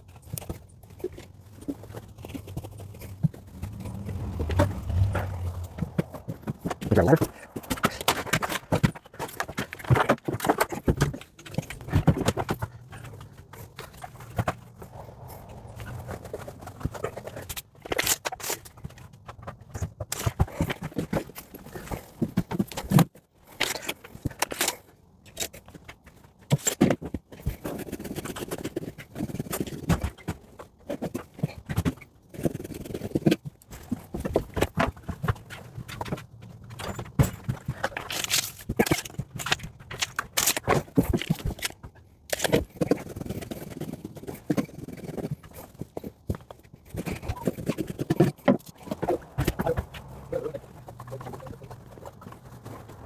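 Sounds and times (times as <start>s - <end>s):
insulation batts knocking and rustling: 0.0s - 53.0s.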